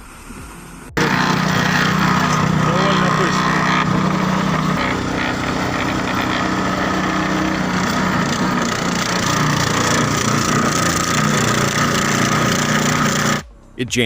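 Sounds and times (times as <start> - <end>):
small engine running under load: 1.0 - 13.4.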